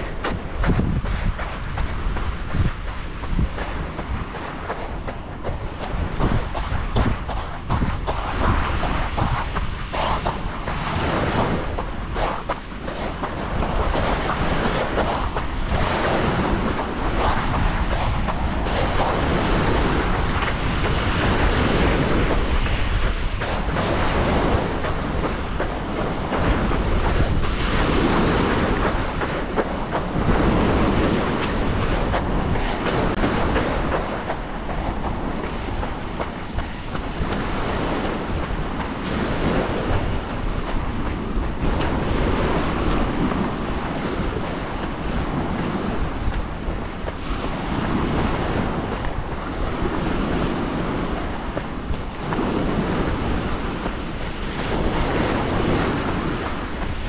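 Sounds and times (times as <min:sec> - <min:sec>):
waves washing on pebbly beach: 0:00.0 - 0:57.0
wind buffeting microphone: 0:00.0 - 0:57.0.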